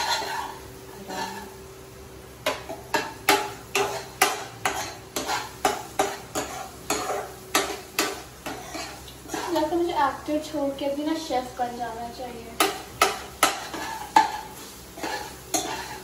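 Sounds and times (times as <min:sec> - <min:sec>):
spatula scraping wok: 0:00.0 - 0:01.6, 0:02.4 - 0:11.4, 0:12.5 - 0:16.0.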